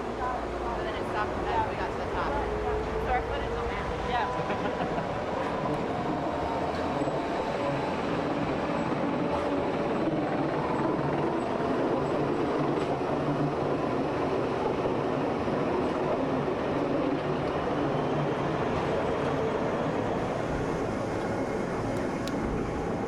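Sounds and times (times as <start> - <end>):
train running steadily: 0.0 - 23.0.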